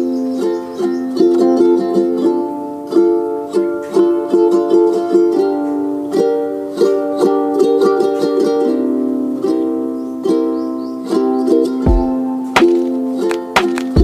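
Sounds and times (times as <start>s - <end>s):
plucked string tune: 0.0s - 14.0s.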